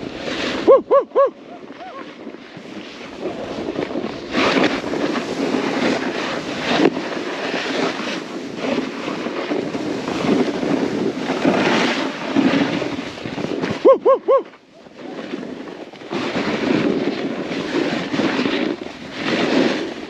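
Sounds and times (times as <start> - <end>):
snowboard carving through snow: 0.0 - 20.0
wind on microphone: 0.0 - 20.0.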